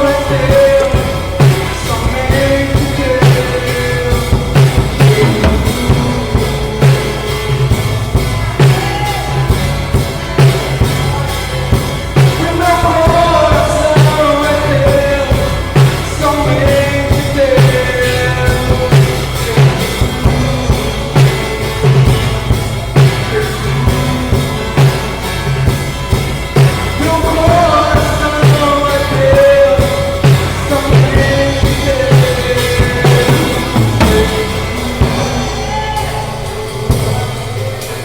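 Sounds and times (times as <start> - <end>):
person singing: 0.0 - 25.9, 26.6 - 38.0
acoustic guitar: 0.0 - 38.0
drum kit beat: 0.0 - 38.0.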